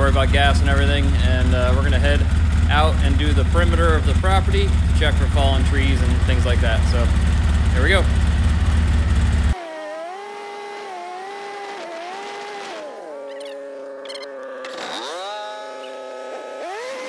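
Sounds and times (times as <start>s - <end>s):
quad bike engine: 0.0s - 17.0s.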